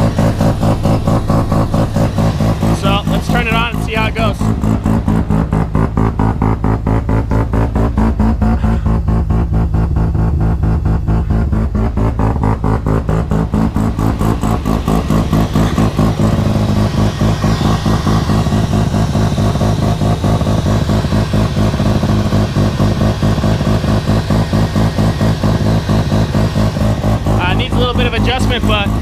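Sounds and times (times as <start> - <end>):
rotary engine idling: 0.0 - 29.0.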